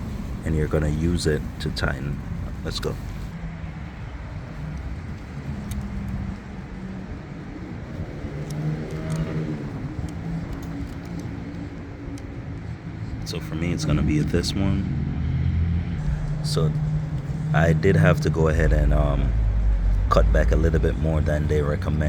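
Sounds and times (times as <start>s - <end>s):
vehicle engine running steadily: 0.0s - 22.0s
vehicle passing by: 0.0s - 22.0s.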